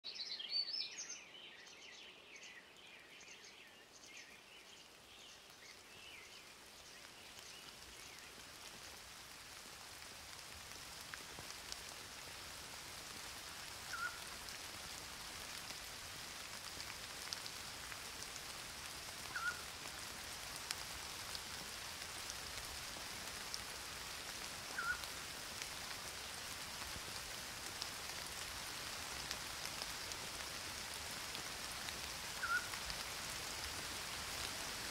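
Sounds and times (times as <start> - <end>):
rain on foliage: 0.1 - 34.9.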